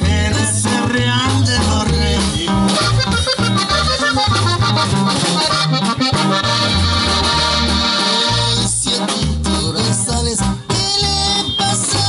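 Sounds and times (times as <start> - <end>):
bass line: 0.0 - 12.0
button accordion melody: 0.0 - 12.0
drum kit: 0.0 - 12.0
live band playing: 0.0 - 12.0
strummed guitar: 0.0 - 12.0.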